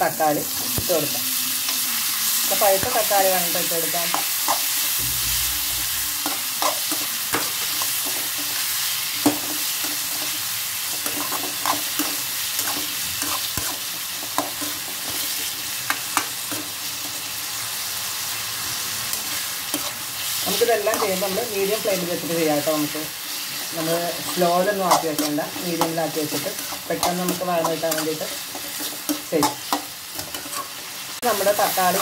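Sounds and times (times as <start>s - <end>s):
onion and tomato sizzling in oil: 0.0s - 32.0s.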